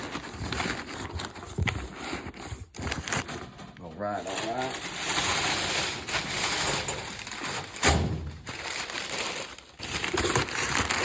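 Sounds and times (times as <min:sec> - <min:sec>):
paper being crumpled: 0:00.0 - 0:11.0.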